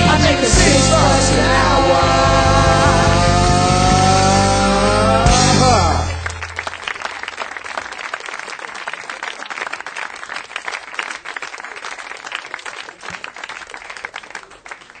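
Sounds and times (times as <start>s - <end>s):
audience applauding: 2.7s - 15.0s.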